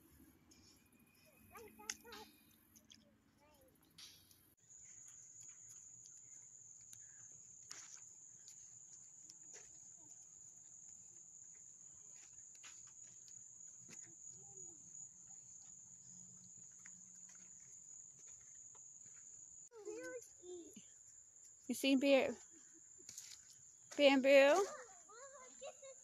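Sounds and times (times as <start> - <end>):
high-pitched insect drone: 4.6 - 26.0.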